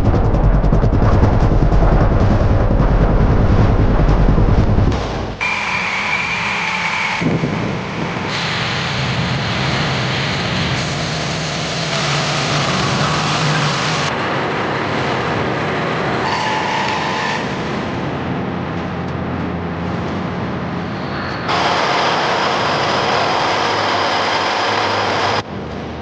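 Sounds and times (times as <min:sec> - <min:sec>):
military vehicle engines: 0:00.0 - 0:26.0.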